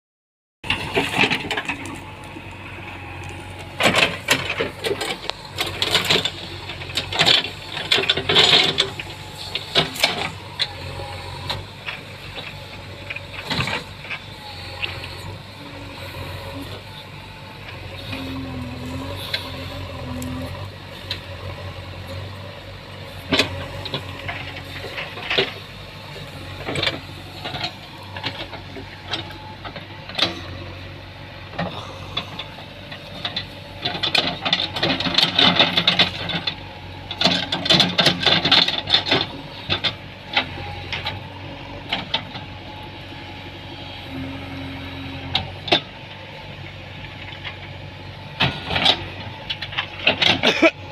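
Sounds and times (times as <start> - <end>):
diesel engine running: 0.6 - 50.9.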